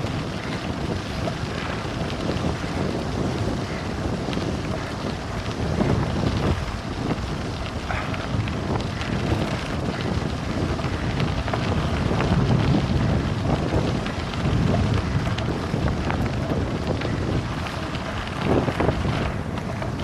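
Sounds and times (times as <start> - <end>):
bike tyres rolling over gravel: 0.0 - 20.0
wind buffeting microphone: 0.0 - 20.0.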